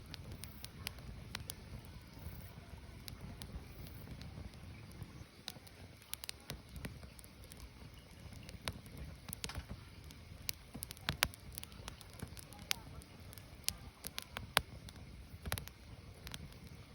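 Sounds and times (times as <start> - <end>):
firewood crackling: 0.0 - 16.9.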